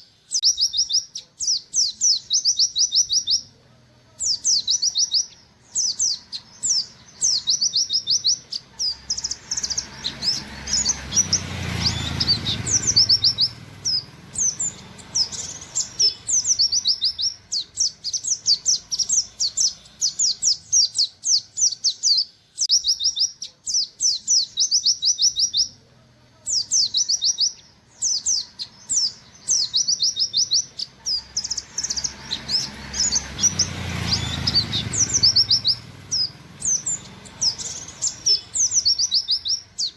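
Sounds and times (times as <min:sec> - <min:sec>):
bird chirping rapidly: 0:00.0 - 0:25.8, 0:26.4 - 0:39.9.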